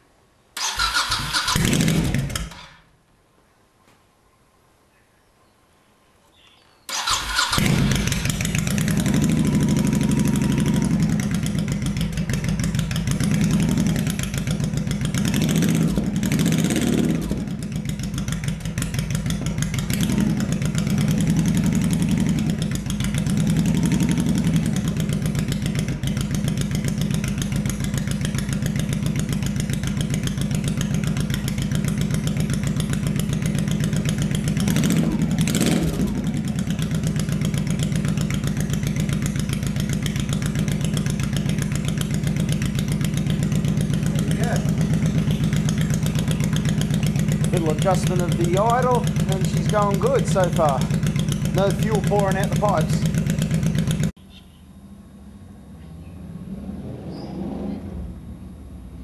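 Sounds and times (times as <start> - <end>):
motorcycle engine idling and revving: 0.6 - 2.9, 6.9 - 59.0.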